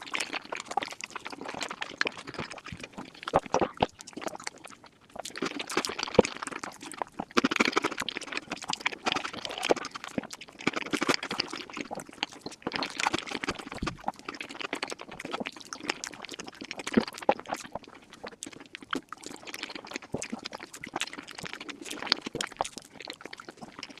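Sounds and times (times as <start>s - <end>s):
mouth clicks and crunches: 0.0s - 24.0s
wet chewing and slurping: 0.0s - 24.0s.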